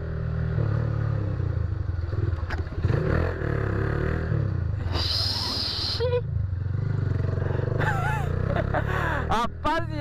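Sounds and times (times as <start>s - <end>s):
motorcycle engine revving: 0.0s - 9.7s.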